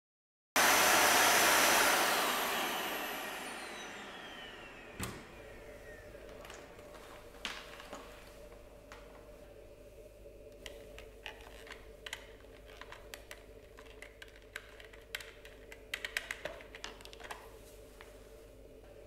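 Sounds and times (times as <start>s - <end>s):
faint steady hum: 3.4s - 19.0s.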